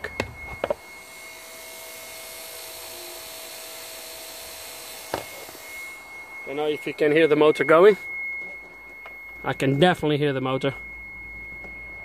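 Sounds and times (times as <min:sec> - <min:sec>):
electric pump motor whirring: 0:00.0 - 0:12.0.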